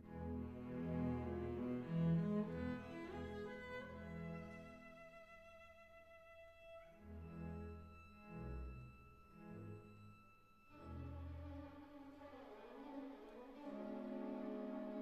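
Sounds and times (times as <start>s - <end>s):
slow bowed string music: 0.0s - 15.0s.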